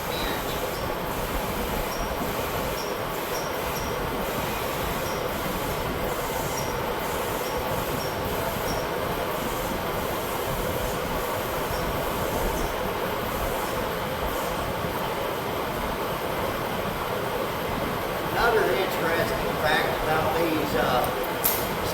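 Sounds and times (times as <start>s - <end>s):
fan blowing: 0.0s - 21.9s.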